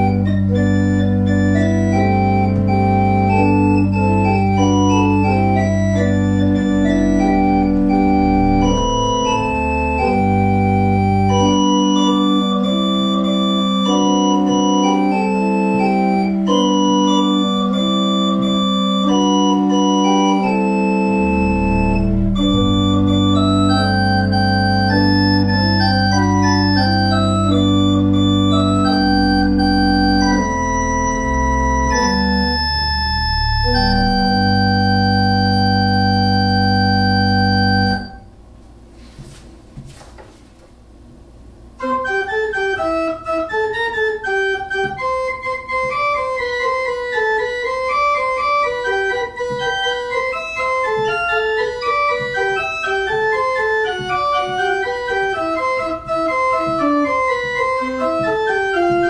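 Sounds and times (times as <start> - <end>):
quick light organ notes: 0.0 - 38.3, 41.8 - 59.0
pipe organ chord with pedal bass: 0.0 - 38.4, 41.8 - 59.0.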